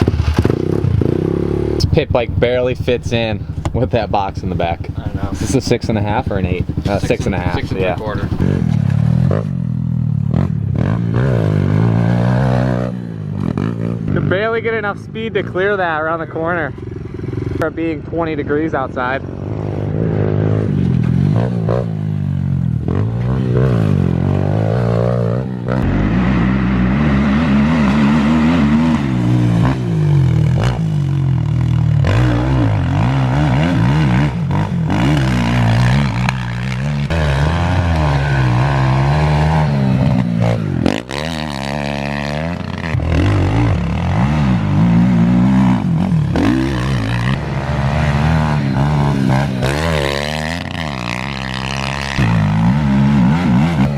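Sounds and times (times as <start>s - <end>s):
motorbike engine revving: 0.0s - 14.9s, 19.0s - 53.9s.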